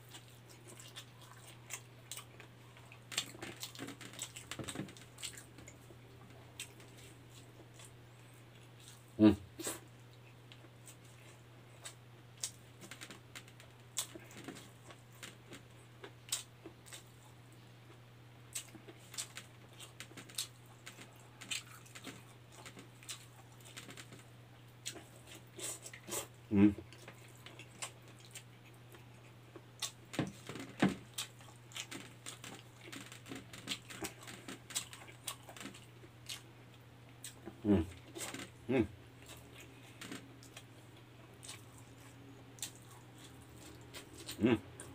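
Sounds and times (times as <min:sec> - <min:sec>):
man chewing with mouth smacks: 0:00.0 - 0:44.9.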